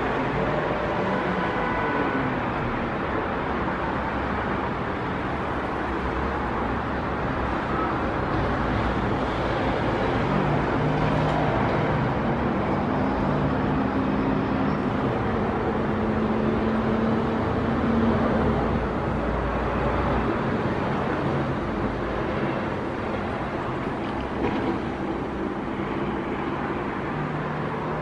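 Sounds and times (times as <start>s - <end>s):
distant road traffic: 0.0s - 28.0s
passing vehicle engines humming: 0.0s - 28.0s.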